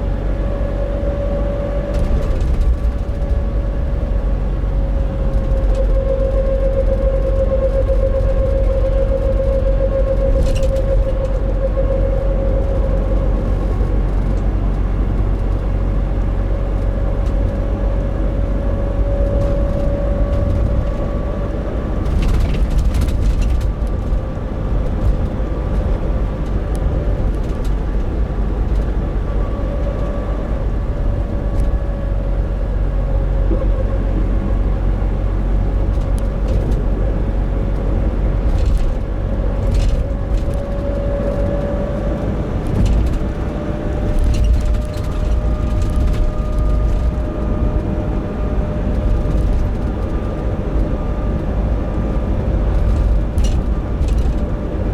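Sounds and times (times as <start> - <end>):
droning hum: 0.0 - 54.9
road rumble: 0.0 - 54.9
van engine driving: 0.0 - 54.9.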